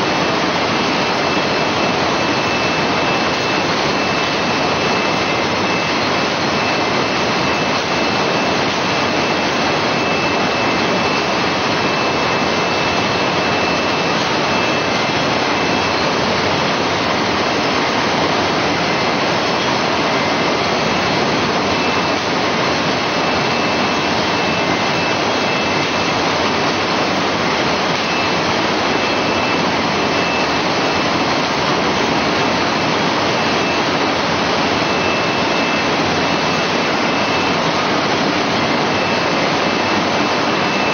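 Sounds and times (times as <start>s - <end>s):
faint high machine whine: 0.0s - 40.9s
processing machinery running: 0.0s - 40.9s.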